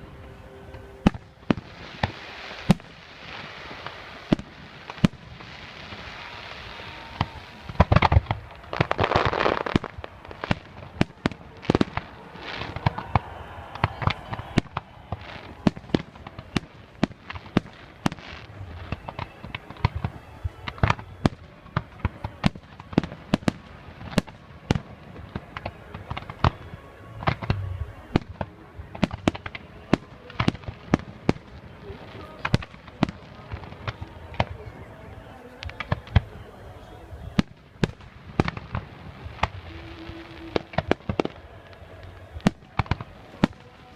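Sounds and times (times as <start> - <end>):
fireworks crackling: 0.0 - 43.9
fireworks bangs: 0.8 - 43.9.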